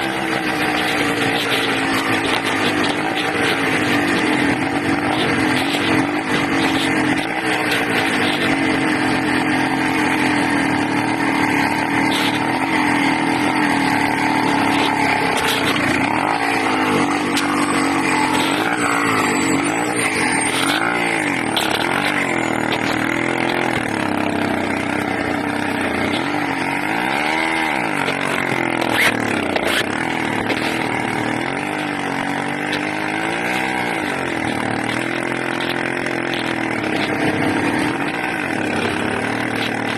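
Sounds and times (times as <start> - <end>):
small engine running unsteadily: 0.0 - 39.9.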